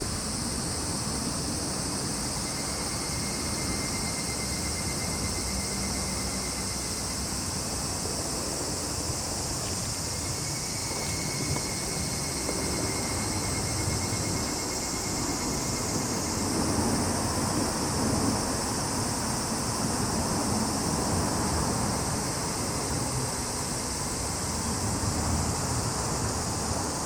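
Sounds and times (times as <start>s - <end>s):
cicadas and crickets: 0.0s - 27.0s
pulsing insect trill: 0.0s - 27.0s.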